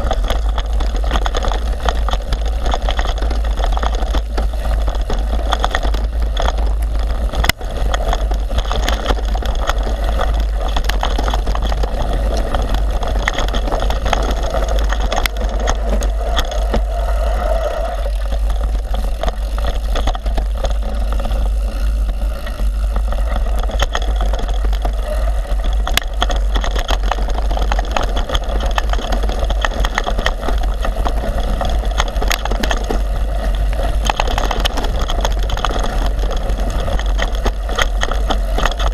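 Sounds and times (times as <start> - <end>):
bike rattling clicks and knocks: 0.0 - 38.9
tyre noise on dirt trail: 0.0 - 38.9
wind buffeting microphone: 0.0 - 38.9.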